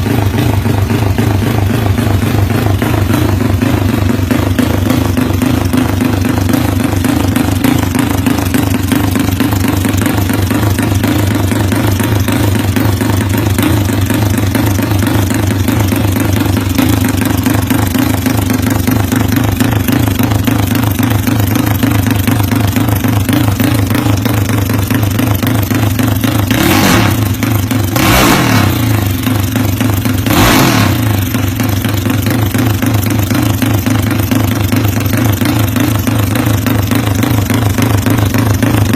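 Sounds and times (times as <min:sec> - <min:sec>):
scooter engine choppy exhaust: 0:00.0 - 0:38.9.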